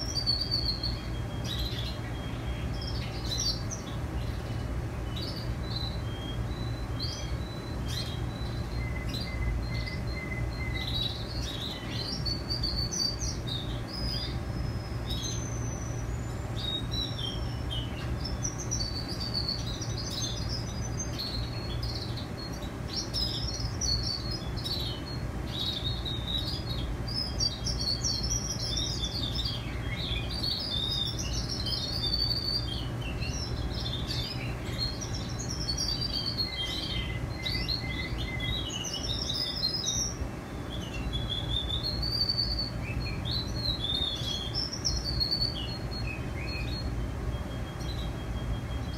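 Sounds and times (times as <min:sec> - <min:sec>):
canaries singing: 0:00.0 - 0:48.9
steady low hum: 0:00.0 - 0:48.9.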